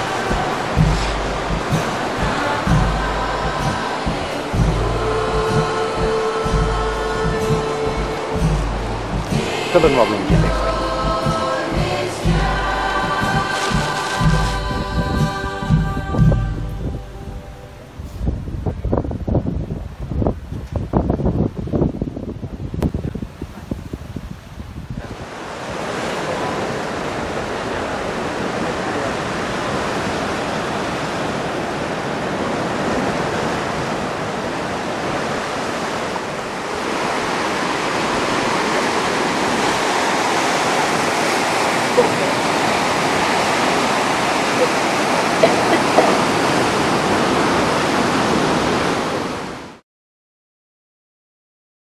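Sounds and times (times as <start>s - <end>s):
sea water rushing: 0.0s - 20.2s, 21.6s - 49.8s
churning boat wake: 0.0s - 49.8s
waves: 0.0s - 49.8s.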